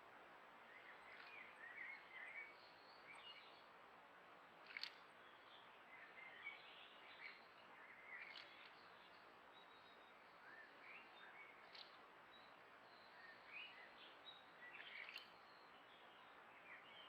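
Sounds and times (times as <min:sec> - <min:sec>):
faint birdsong chirps and twitters: 0:00.0 - 0:17.0.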